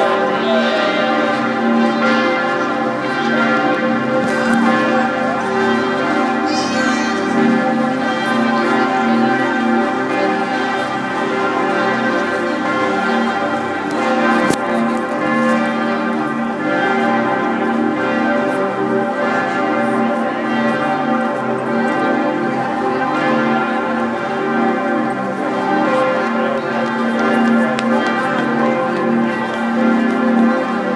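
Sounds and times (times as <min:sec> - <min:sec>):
church bells ringing: 0:00.0 - 0:30.9.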